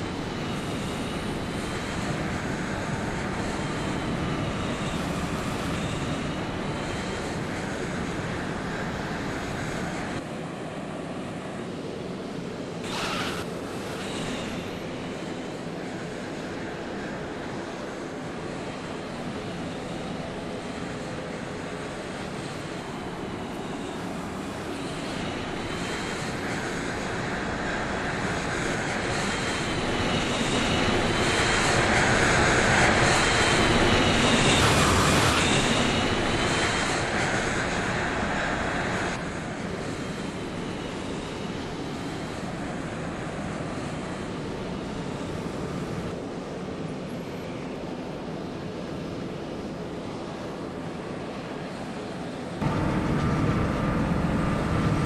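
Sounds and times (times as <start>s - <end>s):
jet engine noise: 0.0s - 55.0s.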